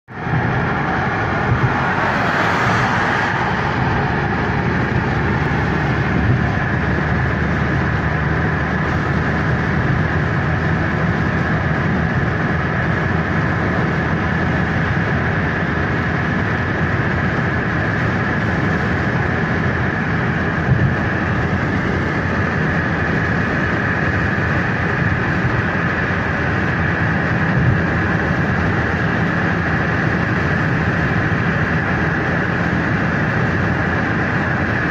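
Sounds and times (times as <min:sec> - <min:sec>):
car engine: 0:00.0 - 0:34.9
tyre road noise: 0:00.0 - 0:34.9.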